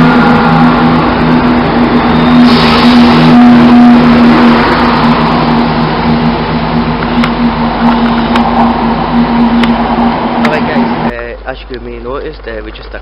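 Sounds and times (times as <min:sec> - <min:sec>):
diesel train running: 0:00.0 - 0:13.0.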